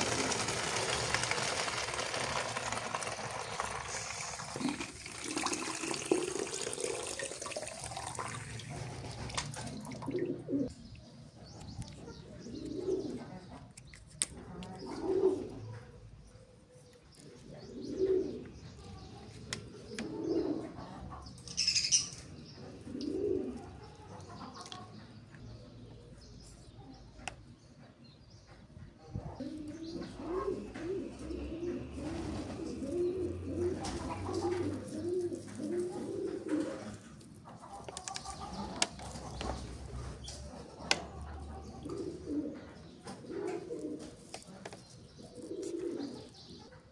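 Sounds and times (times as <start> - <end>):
doves cooing: 0.0 - 10.8, 11.8 - 25.0, 29.2 - 46.9.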